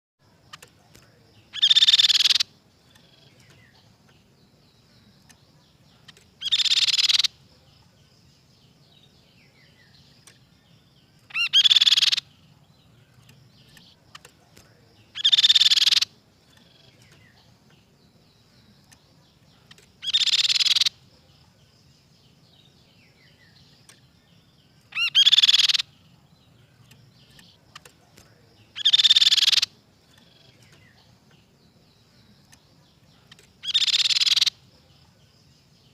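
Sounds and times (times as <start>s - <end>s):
bird singing loud phrase: 0.2s - 35.9s
faint bird chirps: 0.2s - 35.9s.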